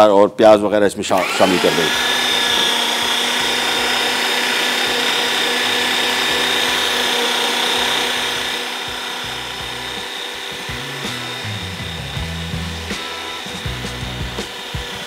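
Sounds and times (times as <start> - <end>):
electric meat grinder whining: 1.1 - 15.0.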